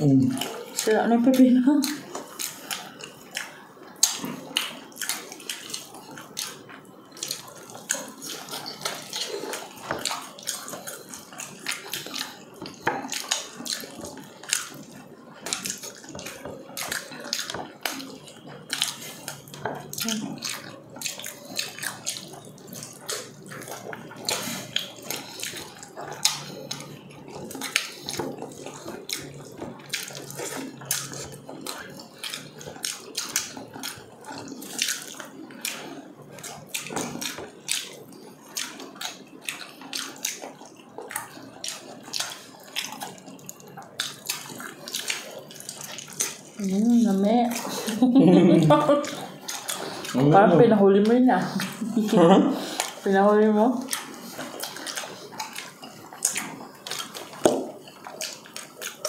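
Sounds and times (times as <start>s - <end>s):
wet chewing and smacking: 0.0s - 59.0s
sharp wet clicks: 0.3s - 48.0s, 52.7s - 59.0s.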